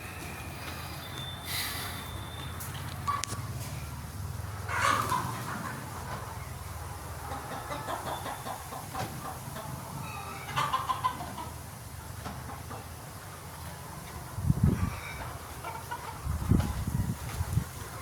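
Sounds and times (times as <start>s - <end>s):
hens clucking: 0.0s - 3.9s, 4.6s - 18.0s.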